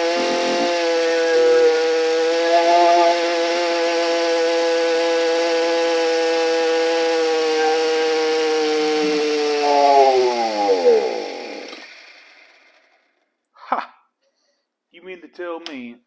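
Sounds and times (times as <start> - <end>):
string trimmer engine stalling: 0.0 - 13.0.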